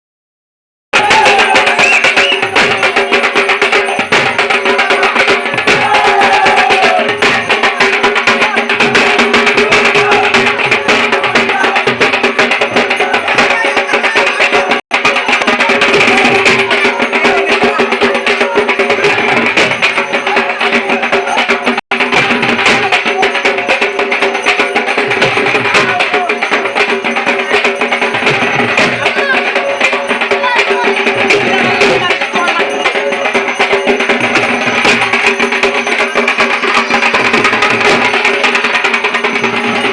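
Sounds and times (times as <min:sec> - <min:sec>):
barrel drum played with sticks: 0:00.9 - 0:39.9.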